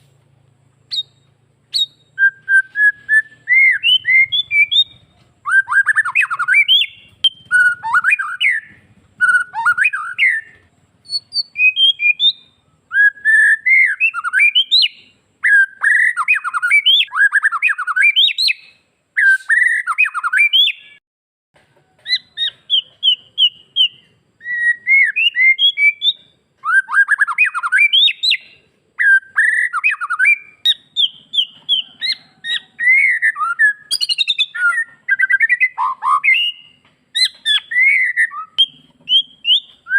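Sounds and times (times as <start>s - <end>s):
bird singing whistles and trills: 0.9s - 21.0s, 22.0s - 39.9s.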